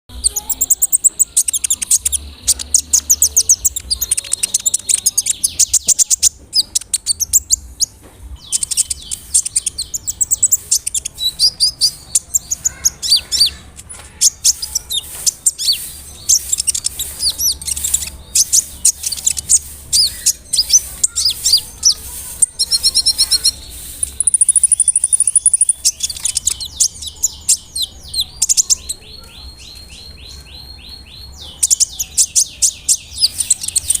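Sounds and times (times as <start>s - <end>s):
bird singing chirps and trills: 0.1s - 34.0s.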